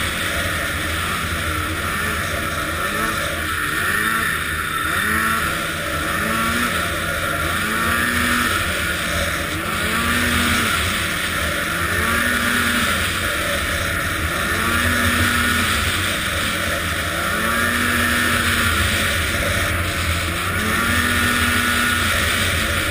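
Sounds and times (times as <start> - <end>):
snowmobile engine revving: 0.0 - 22.9.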